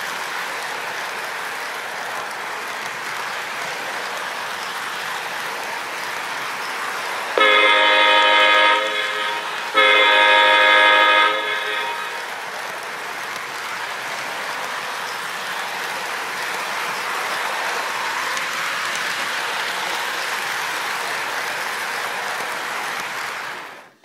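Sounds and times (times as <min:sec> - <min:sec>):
model train wheels and motor rolling: 0:00.0 - 0:24.0.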